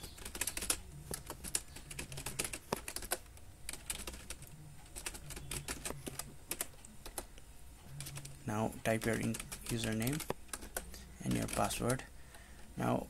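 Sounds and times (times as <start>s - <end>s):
computer keyboard typing: 0.0s - 7.3s, 7.9s - 12.1s.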